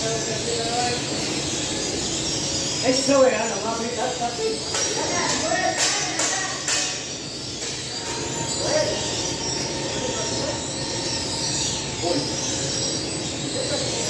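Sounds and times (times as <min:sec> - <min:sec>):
high metallic squeaks: 0:00.0 - 0:14.0
oven and extractor hood running: 0:00.0 - 0:14.0.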